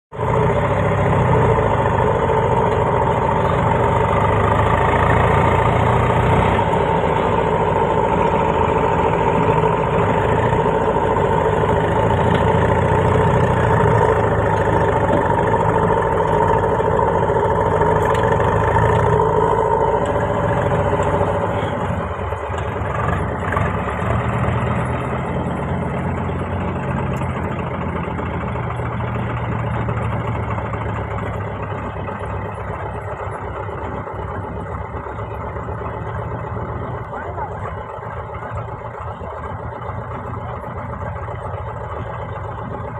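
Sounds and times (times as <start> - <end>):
diesel engine running: 0.1 - 42.9.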